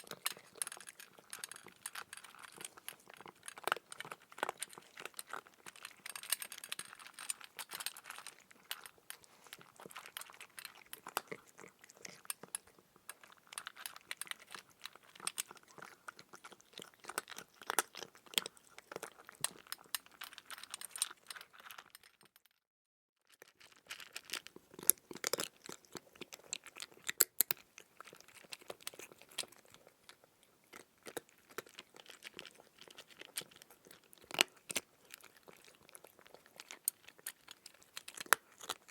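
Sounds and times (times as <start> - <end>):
crunchy chewing: 0.0 - 22.2, 23.3 - 38.9.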